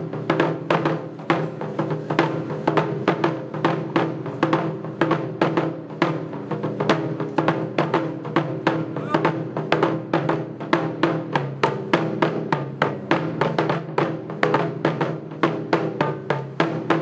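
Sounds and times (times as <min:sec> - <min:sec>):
drums struck with wooden sticks: 0:00.0 - 0:17.0.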